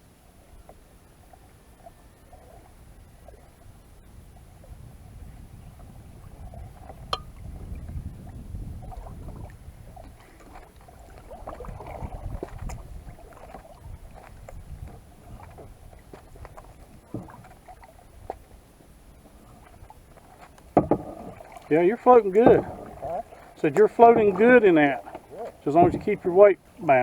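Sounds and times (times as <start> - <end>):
paddle splashing in water: 0.3 - 3.8, 4.4 - 27.0.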